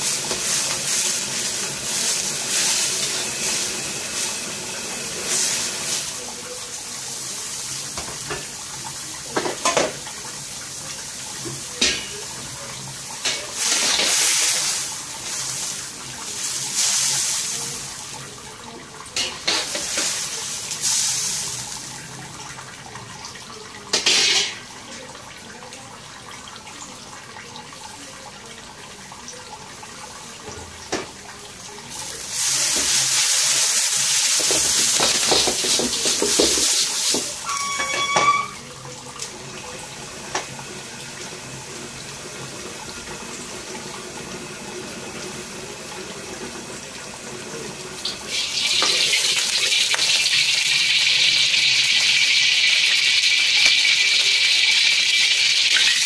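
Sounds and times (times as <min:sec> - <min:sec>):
water boiling in a wok: 0:00.0 - 0:56.0.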